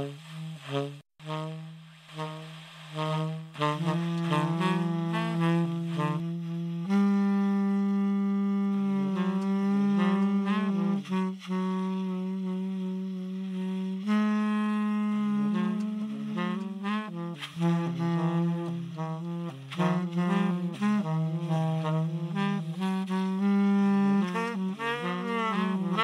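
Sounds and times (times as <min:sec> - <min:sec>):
saxophone slow melody: 0:00.0 - 0:26.0.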